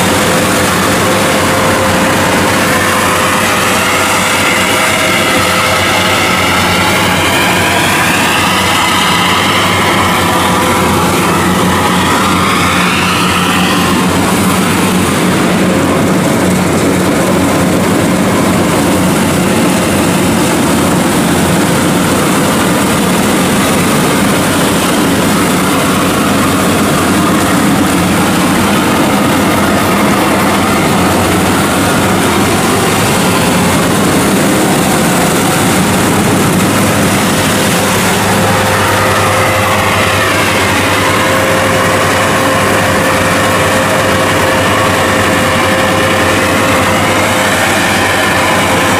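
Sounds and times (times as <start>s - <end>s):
combine harvester droning: 0.0s - 48.9s.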